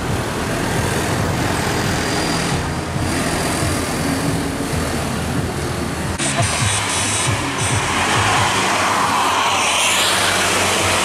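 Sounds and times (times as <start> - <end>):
tyres on road: 0.0 - 11.0.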